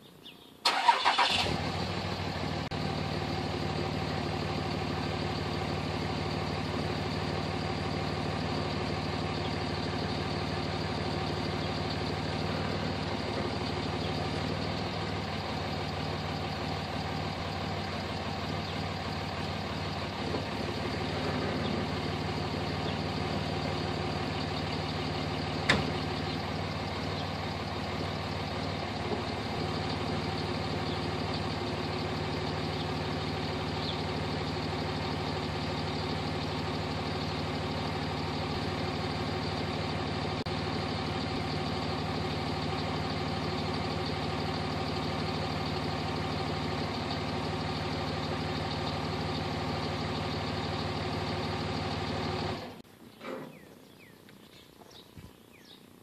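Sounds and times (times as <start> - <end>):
pickup truck engine starting and idling: 0.6 - 52.8.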